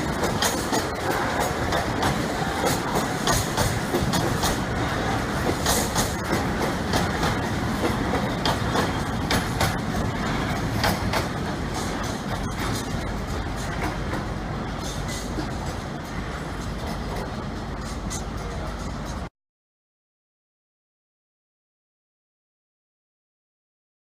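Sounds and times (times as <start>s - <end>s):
train rumble: 0.0s - 19.3s
train wheels clicking over rails: 0.0s - 19.3s.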